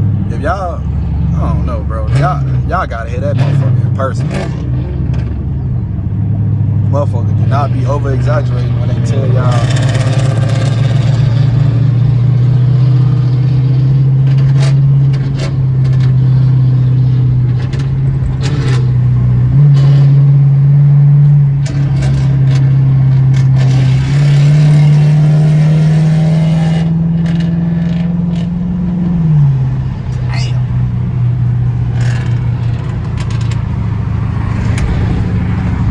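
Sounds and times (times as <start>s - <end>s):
car exhaust drone at highway speed: 0.0s - 35.9s.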